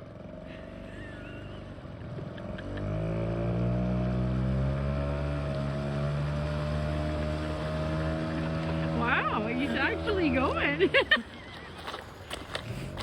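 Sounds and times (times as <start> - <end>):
outboard motor throttling up: 0.0 - 13.0.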